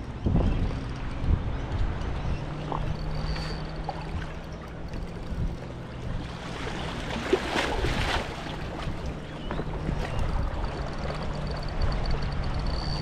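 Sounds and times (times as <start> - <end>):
small boat motor running: 0.0 - 13.0
water noise: 0.0 - 13.0
wind: 0.0 - 13.0.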